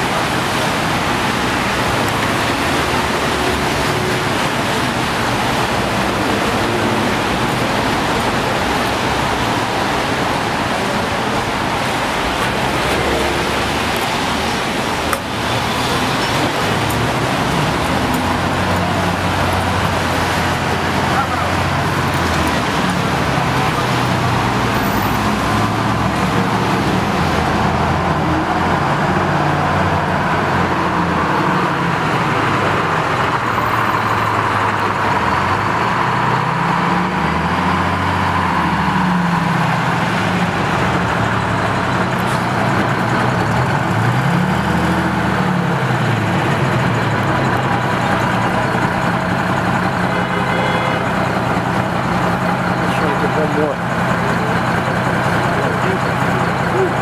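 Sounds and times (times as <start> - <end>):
bus engine driving: 0.0 - 57.0
street traffic hiss: 0.0 - 57.0.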